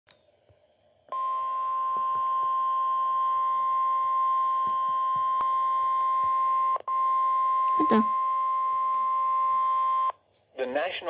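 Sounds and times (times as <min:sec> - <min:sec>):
weather radio alarm tone: 0:01.2 - 0:10.1.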